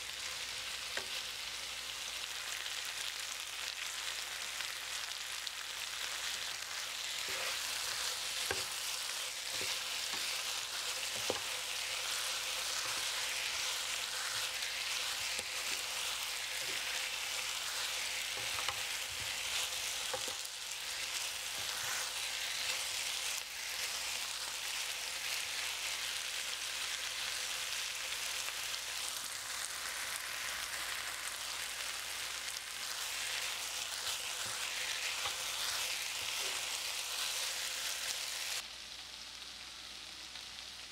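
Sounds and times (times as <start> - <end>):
food sizzling in frying pan: 0.0 - 40.9.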